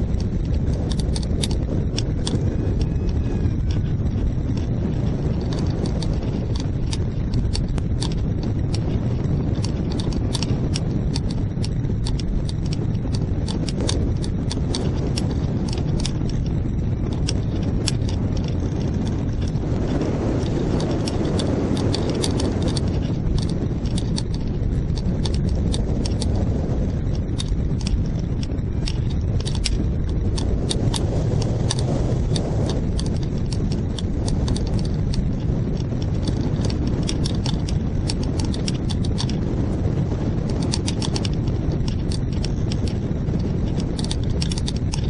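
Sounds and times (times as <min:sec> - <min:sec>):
sharp irregular clicks: 0:00.0 - 0:45.0
wind buffeting microphone: 0:00.0 - 0:45.0.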